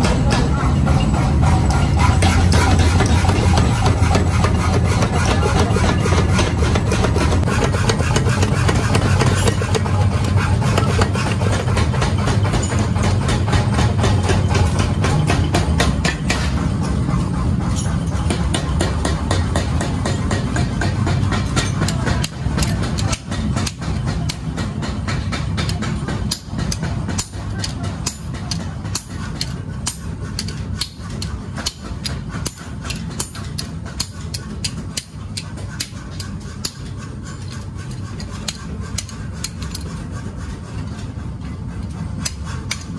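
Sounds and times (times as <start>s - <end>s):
power hammer pounding: 0.0s - 42.9s.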